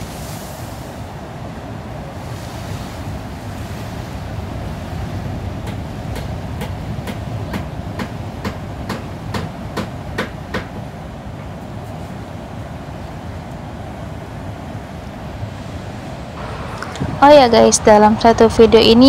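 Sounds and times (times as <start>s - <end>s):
ocean surf breaking on beach: 0.0s - 19.0s
wind on microphone: 0.0s - 19.0s.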